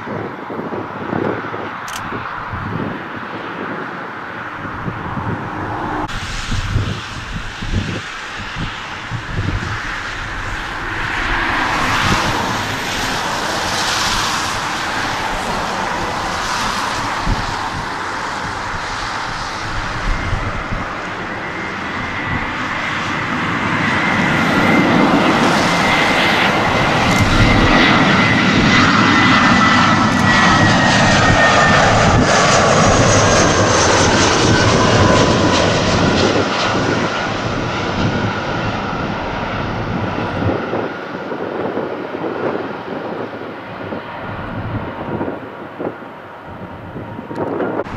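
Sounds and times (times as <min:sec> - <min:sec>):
jet engines roaring and whining: 0:00.0 - 0:47.9.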